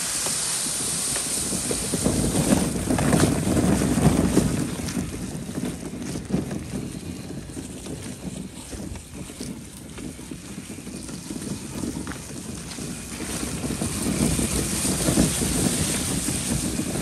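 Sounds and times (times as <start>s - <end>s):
wagon rumbling through dry leaves: 0.0s - 17.0s
wind buffeting microphone: 0.0s - 17.0s.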